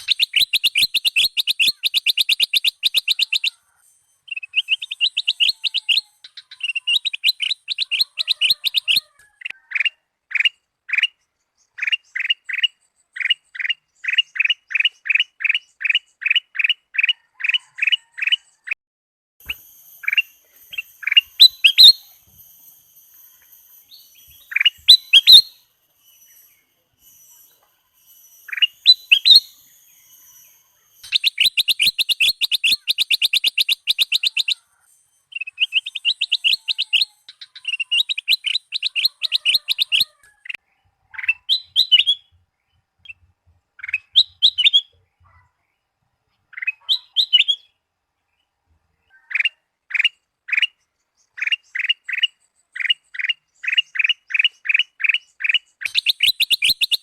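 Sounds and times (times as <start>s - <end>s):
bird chirping and trilling: 0.0s - 18.8s, 19.4s - 47.8s, 49.0s - 57.0s.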